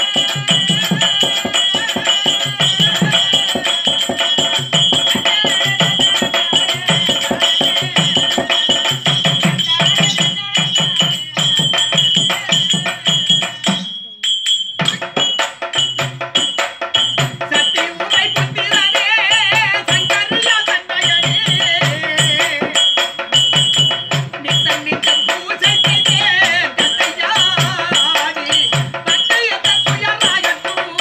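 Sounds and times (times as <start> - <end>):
hand drum beating: 0.0 - 14.2, 14.8 - 31.0
high singing voice: 0.0 - 31.0
jingling percussion: 0.0 - 31.0.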